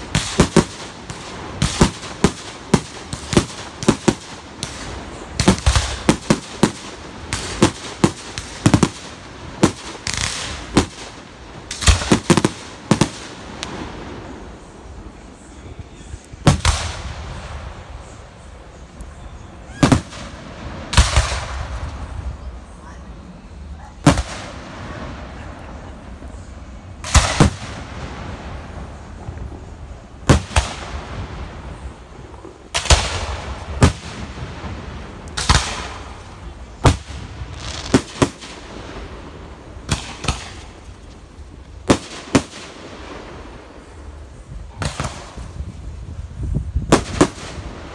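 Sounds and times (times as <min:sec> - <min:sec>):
fireworks bursting with bangs: 0:00.0 - 0:47.9.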